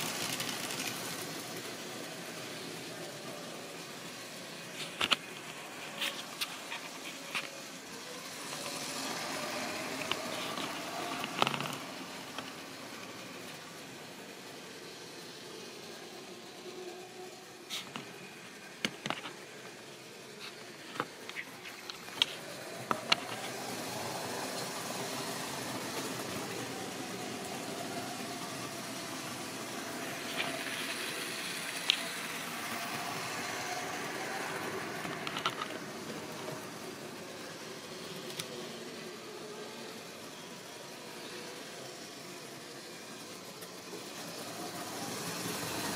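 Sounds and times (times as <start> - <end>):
model train motor whirr: 0.0 - 45.9.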